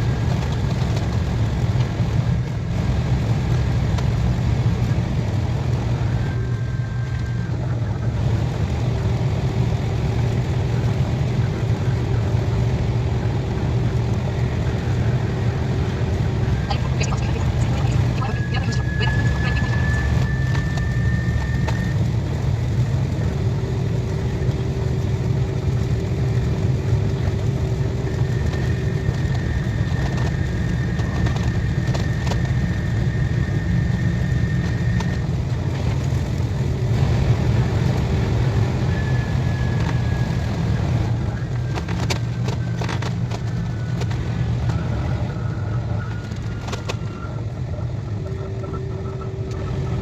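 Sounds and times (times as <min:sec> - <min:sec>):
high-speed train rumble: 0:00.0 - 0:50.0.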